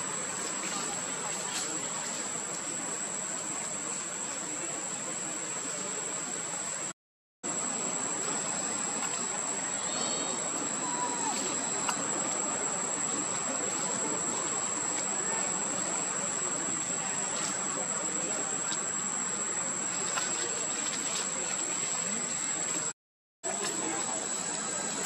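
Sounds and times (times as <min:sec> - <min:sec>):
steady hiss: 0:00.0 - 0:06.9, 0:07.5 - 0:22.9, 0:23.5 - 0:25.0.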